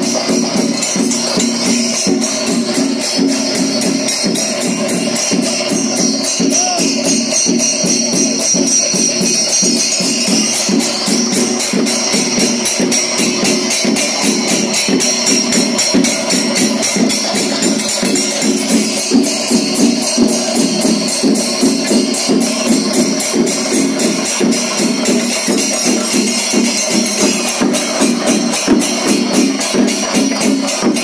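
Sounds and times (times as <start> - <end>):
cymbals beating: 0.0 - 31.0
drums beating fast rhythm: 0.0 - 31.0.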